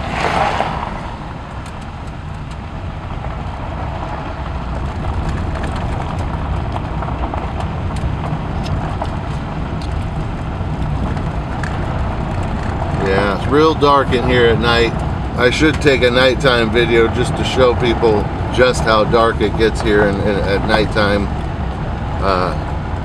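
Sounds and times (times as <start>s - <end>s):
tyres and engine rumbling: 0.0s - 23.0s
gravel ticks: 0.2s - 23.0s.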